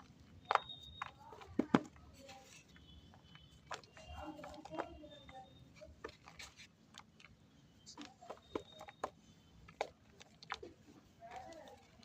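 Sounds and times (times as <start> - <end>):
clay crackling and snapping: 0.0 - 12.0.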